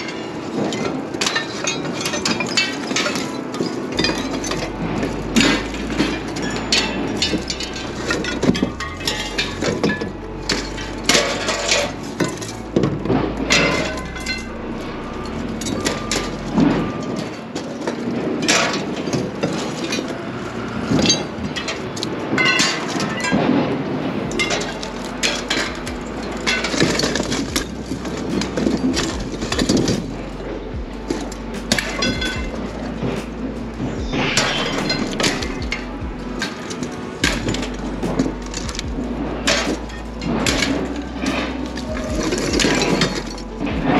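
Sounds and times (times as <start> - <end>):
scrap iron clanking onto pile: 0.0 - 43.9.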